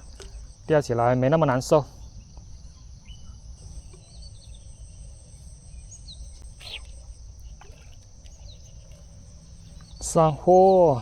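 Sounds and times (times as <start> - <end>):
insects trilling: 0.0 - 11.0
bird chirps: 1.9 - 11.0.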